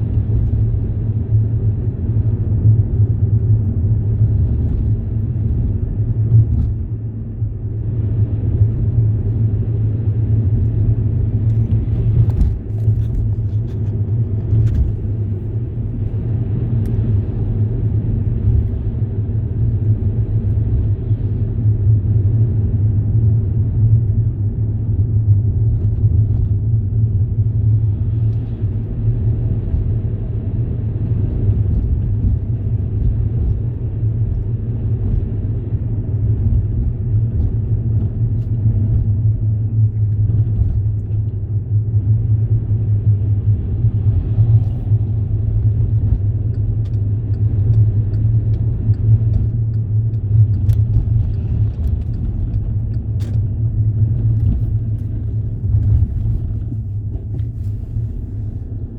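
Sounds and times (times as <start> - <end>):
vehicle engine rumble: 0.0 - 58.9.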